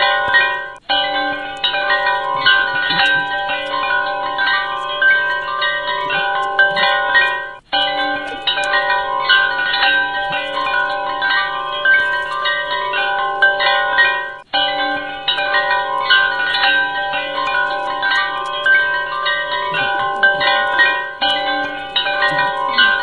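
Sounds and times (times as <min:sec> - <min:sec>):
chime-like bell tones music: 0:00.0 - 0:23.0.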